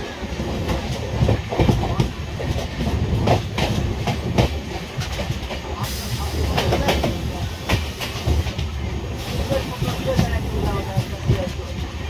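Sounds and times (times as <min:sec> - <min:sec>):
train rumble: 0:00.0 - 0:12.0
train wheels clickety-clack: 0:00.0 - 0:12.0.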